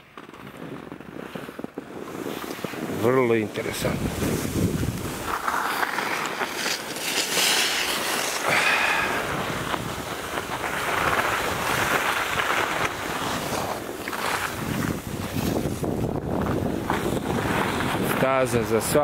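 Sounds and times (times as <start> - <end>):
skis scraping over snow: 0.0 - 19.0
wind buffeting microphone: 0.0 - 19.0.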